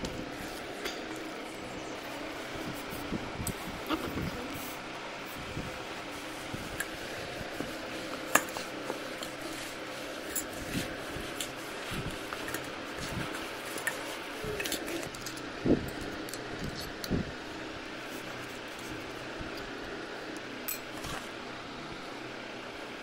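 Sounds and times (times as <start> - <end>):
fan hum: 0.0 - 23.0.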